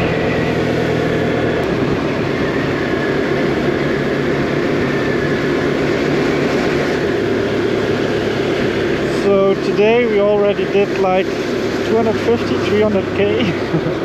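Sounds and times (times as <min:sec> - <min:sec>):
motorcycle engine running: 0:00.0 - 0:14.0
road and wind noise: 0:00.0 - 0:14.0.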